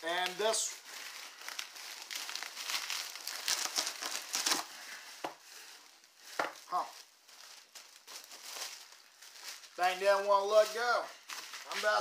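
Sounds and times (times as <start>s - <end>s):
bubble wrap and plastic bag crinkling: 0.0s - 12.0s.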